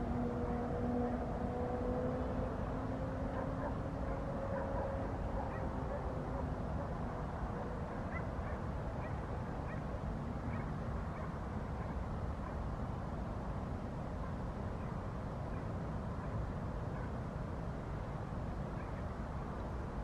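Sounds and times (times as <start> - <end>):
faint engine hum: 0.0 - 20.0.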